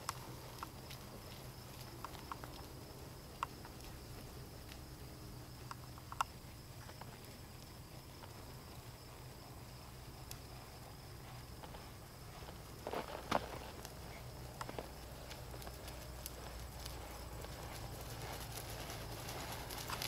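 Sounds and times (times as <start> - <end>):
horse hooves on dirt: 0.0 - 20.0.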